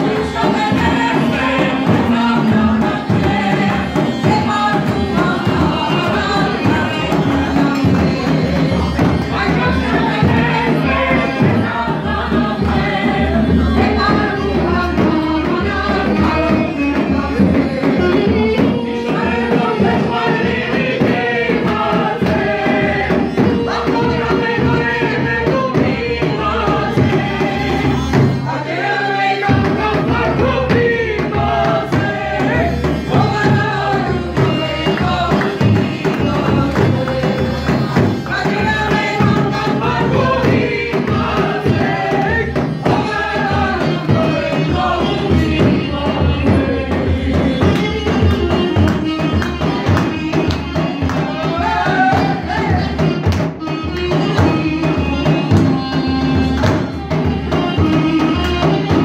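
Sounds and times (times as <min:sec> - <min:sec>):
woman and man singing: 0:00.0 - 0:59.0.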